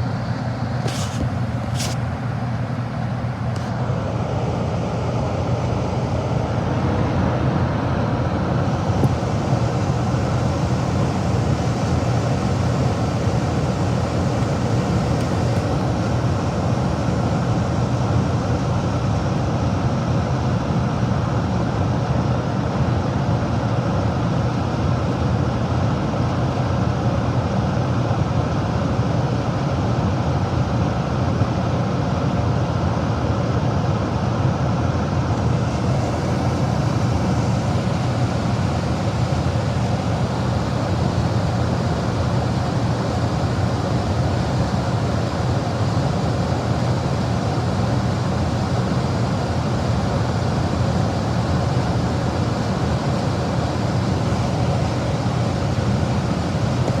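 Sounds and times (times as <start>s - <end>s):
furnace burners and blower rumbling: 0.0s - 57.0s.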